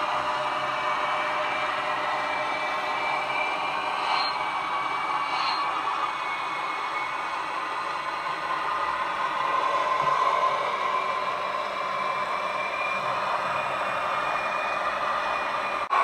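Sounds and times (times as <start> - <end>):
model locomotive whirring: 0.0 - 16.0.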